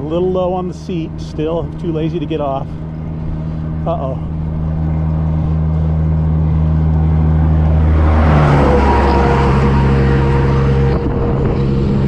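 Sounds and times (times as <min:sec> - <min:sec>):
truck passing at speed: 0:02.3 - 0:12.0.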